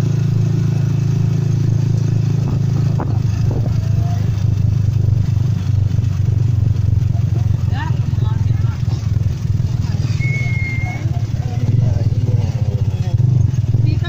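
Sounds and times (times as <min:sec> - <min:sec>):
motorcycle engine droning: 0:00.0 - 0:14.0.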